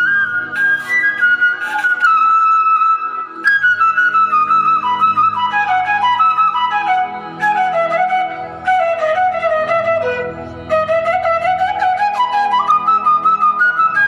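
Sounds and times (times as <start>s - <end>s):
flute playing gliding melody: 0.0s - 14.0s.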